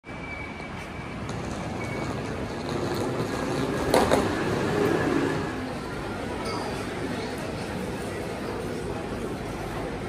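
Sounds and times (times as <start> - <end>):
rumbling background noise: 0.1 - 10.0.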